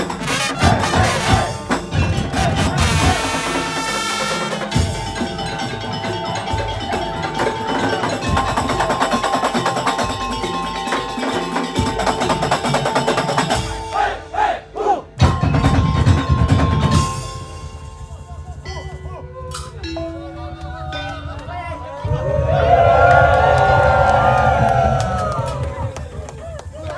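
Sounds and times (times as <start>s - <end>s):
percussion ensemble playing: 0.0s - 26.9s.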